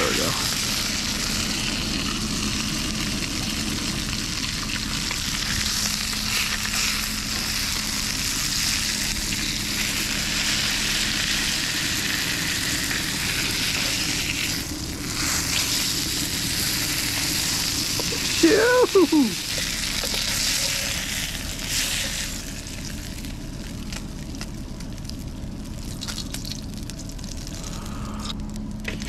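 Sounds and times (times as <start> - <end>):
fish sizzling in a hot pan: 0.0 - 27.5.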